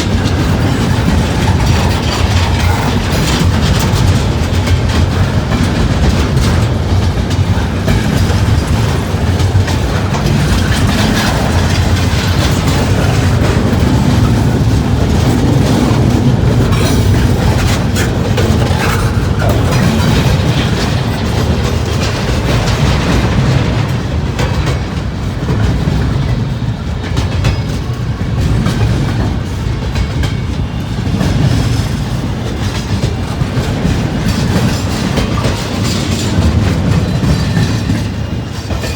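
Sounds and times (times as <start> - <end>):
freight train rolling past: 0.0 - 38.9
wheels clacking over rail joints: 0.0 - 38.9.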